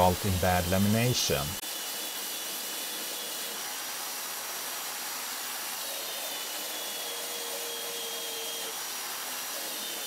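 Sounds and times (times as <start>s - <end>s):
belt sander whirring hiss: 0.0s - 10.0s.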